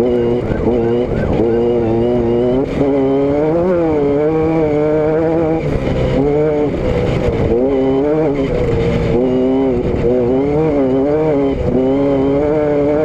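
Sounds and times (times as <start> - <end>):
car engine and exhaust running: 0.0 - 13.0
road noise rumble: 0.0 - 13.0
wind noise: 0.0 - 13.0.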